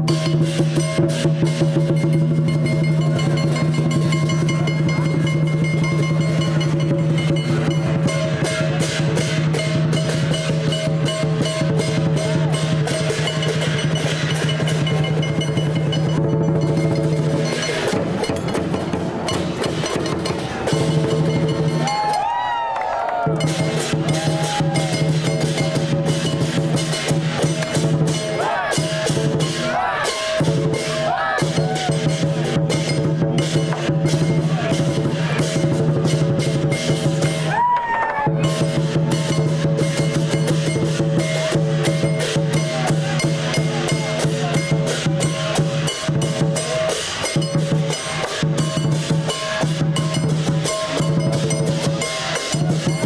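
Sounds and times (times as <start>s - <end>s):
clashing cymbals and gongs: 0.0s - 22.4s, 23.3s - 37.6s, 38.4s - 53.0s
steady drum beat: 0.0s - 53.0s.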